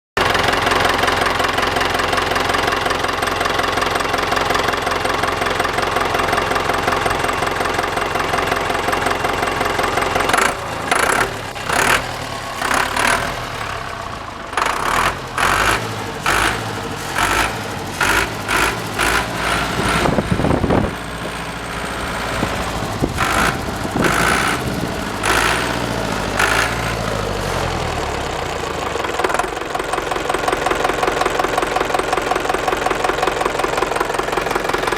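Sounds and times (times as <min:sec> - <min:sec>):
diesel engine revving: 0:00.2 - 0:31.6.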